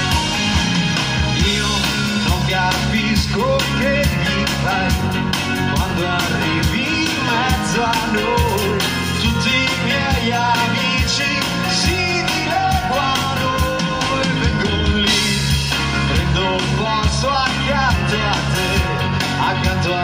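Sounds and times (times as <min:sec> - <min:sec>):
drum beat: 0:00.0 - 0:19.8
electric guitars: 0:00.0 - 0:20.0
keyboard: 0:00.0 - 0:20.0
man singing: 0:01.3 - 0:20.0.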